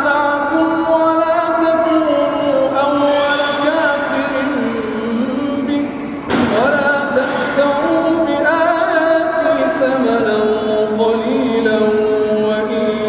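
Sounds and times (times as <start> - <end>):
man chanting a recitation: 0.0 - 13.0.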